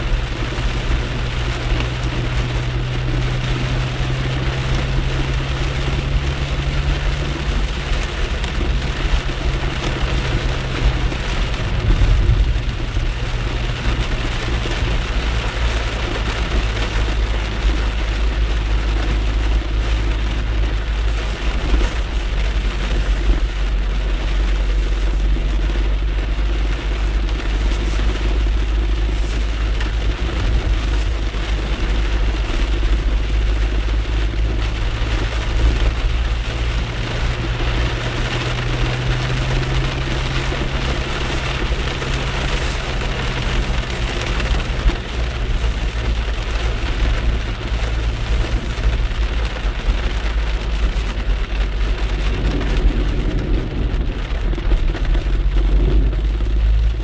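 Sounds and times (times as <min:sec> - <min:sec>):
engine hum: 0:00.0 - 0:57.0
heavy rain on car: 0:00.0 - 0:57.0
tyres rumbling on wet road: 0:00.0 - 0:57.0.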